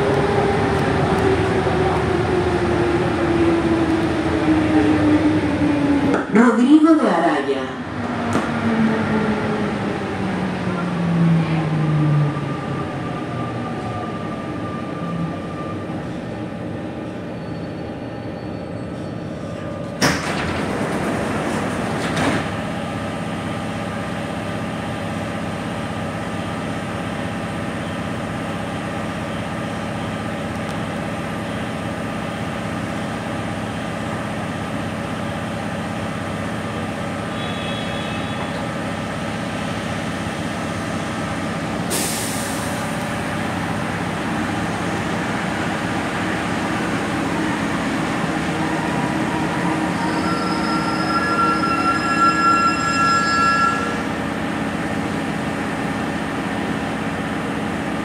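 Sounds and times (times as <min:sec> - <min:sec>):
metro train equipment hum: 0:00.0 - 0:58.0
train pulling in: 0:00.0 - 0:58.0.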